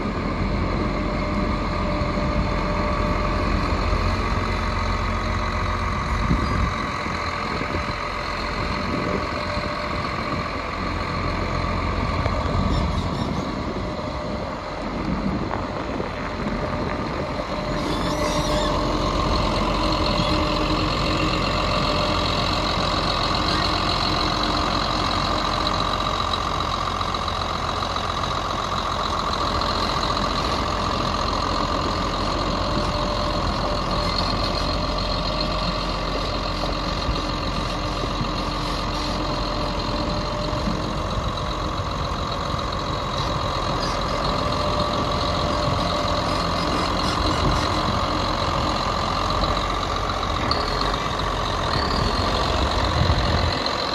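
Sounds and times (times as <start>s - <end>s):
tracked tractor diesel engine running: 0.0s - 53.9s.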